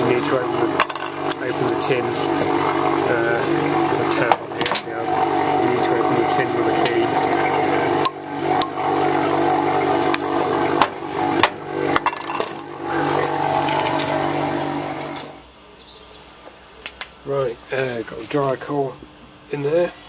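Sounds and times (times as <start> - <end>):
small pump motor humming: 0.0 - 20.0.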